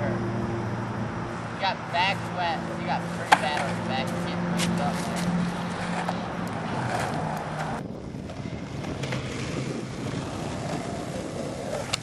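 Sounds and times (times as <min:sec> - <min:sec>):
wind buffeting microphone: 0:00.0 - 0:12.0
skateboard wheels rolling on asphalt: 0:01.3 - 0:12.0.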